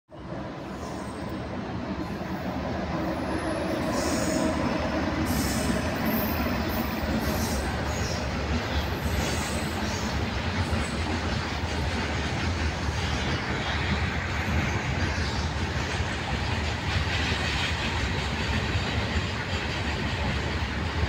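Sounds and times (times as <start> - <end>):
freight train rumbling past: 0.1 - 21.0.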